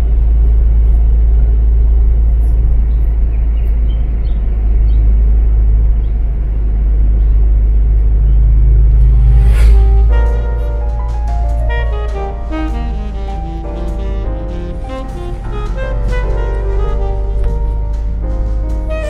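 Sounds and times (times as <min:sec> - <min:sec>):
road rumble inside car: 0:00.0 - 0:19.0.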